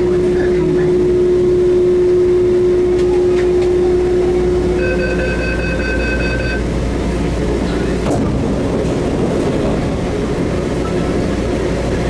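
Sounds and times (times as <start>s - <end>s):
station and cabin noise: 0.0s - 12.0s
train running rumble: 0.0s - 12.0s.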